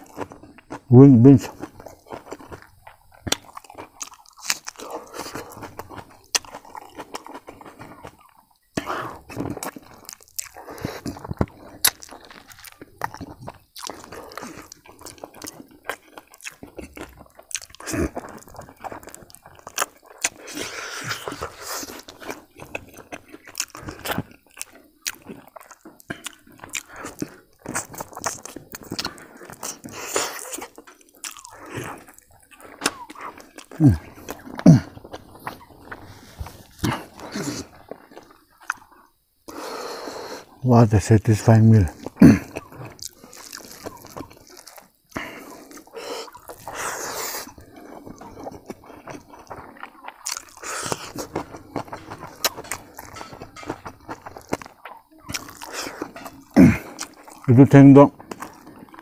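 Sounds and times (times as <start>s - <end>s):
man chewing and lip smacking: 0.0s - 40.6s, 41.3s - 59.0s
crunchy bites: 0.0s - 59.0s.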